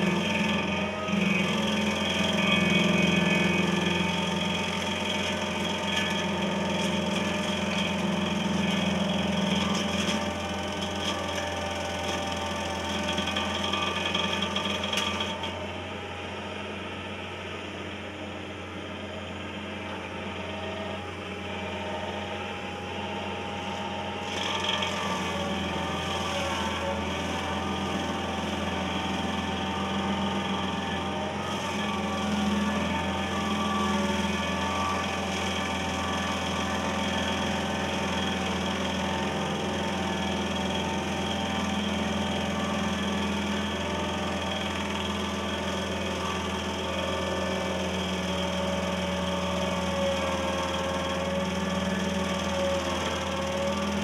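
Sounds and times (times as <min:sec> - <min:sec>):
cutter wheel rasping into wood: 0:00.0 - 0:15.6, 0:24.0 - 0:54.0
stump grinder machine hum: 0:00.0 - 0:54.0.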